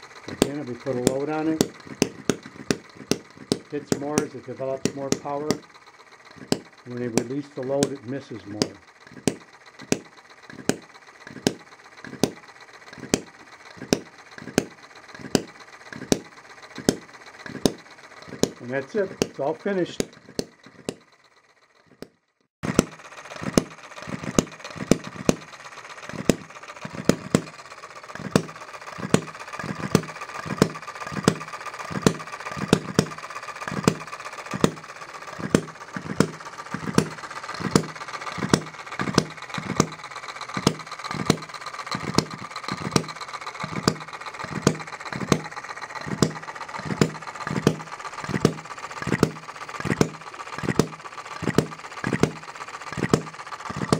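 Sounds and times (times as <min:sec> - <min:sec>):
engine mechanical clatter: 0:00.0 - 0:53.9
small engine firing pops: 0:00.0 - 0:53.9.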